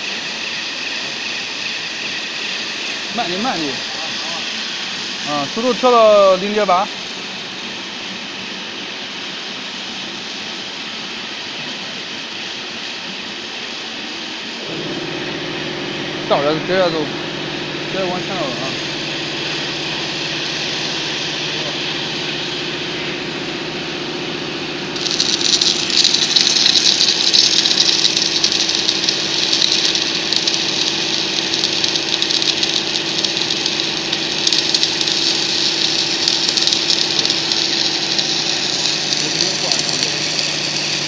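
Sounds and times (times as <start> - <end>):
welding equipment humming: 0.0 - 10.9, 14.5 - 41.0
welding arc crackling and hissing: 0.0 - 41.0.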